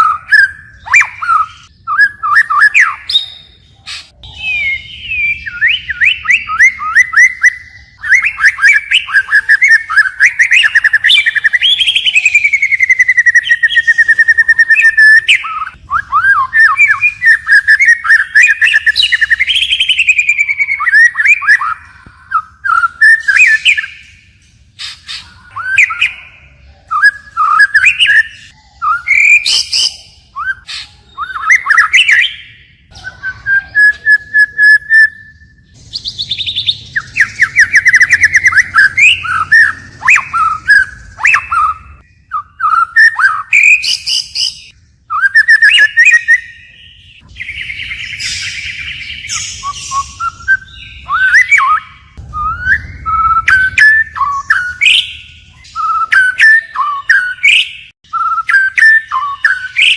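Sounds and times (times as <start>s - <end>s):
bird singing whistled phrases: 0.0s - 59.9s.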